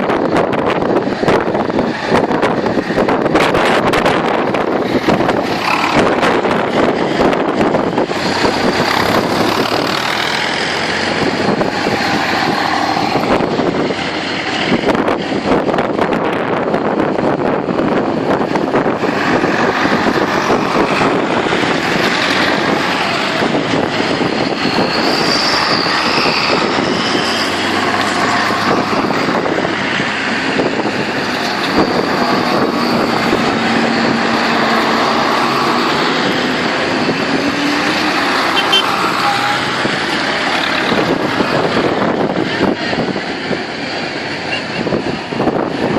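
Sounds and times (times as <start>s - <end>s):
tractor engines running: 0.0s - 45.9s.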